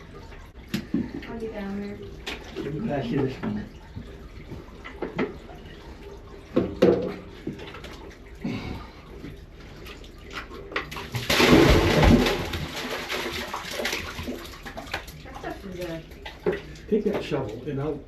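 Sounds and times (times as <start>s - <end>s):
liquid splashing: 0.0s - 17.8s.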